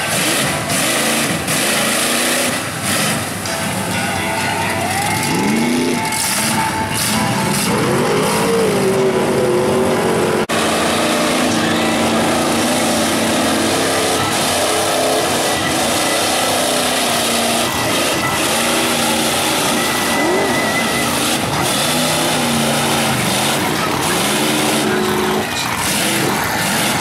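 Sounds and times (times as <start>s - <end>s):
truck churning through mud: 0.0s - 27.0s
truck engine revving: 0.0s - 27.0s.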